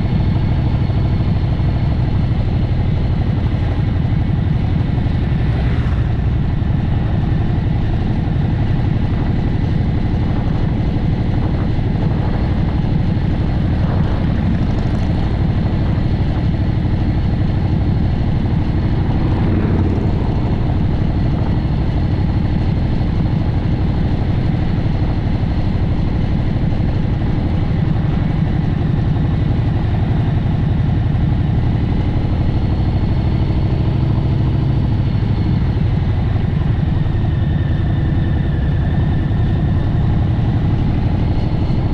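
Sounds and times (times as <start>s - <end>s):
vehicle engine and road noise: 0.0s - 41.9s.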